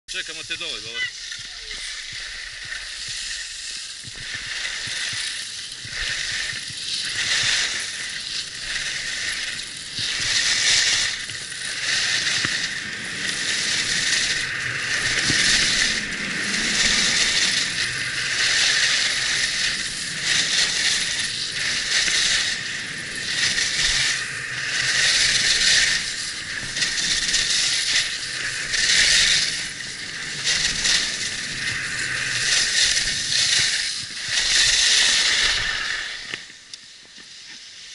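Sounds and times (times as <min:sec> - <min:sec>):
skis scraping over snow: 0:00.1 - 0:37.9.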